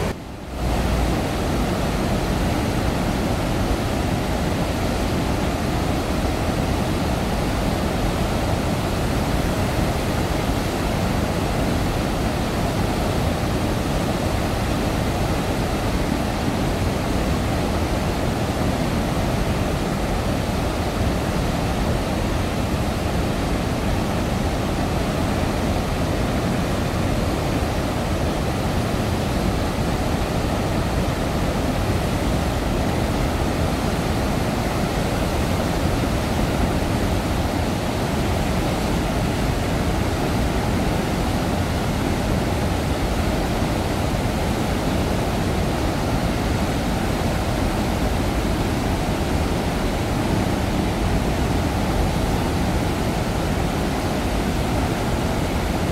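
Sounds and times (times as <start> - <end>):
floodwater roaring through spillway: 0.0 - 55.9.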